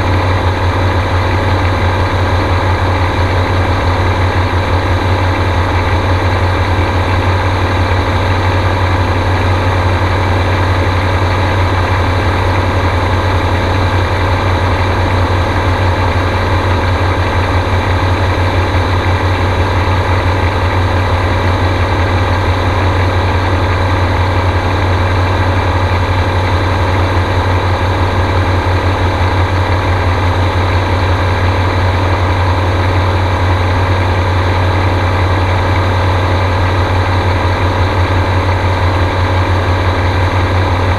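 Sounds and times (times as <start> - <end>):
aircraft engine droning: 0.0 - 40.9.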